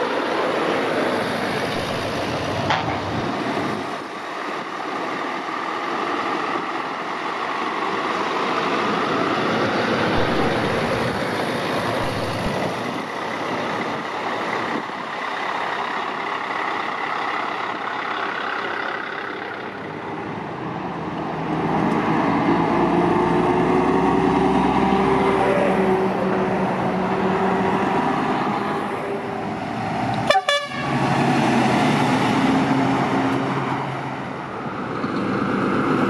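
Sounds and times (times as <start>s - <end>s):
diesel truck engines passing: 0.0s - 36.0s
tyre and road noise: 0.0s - 36.0s.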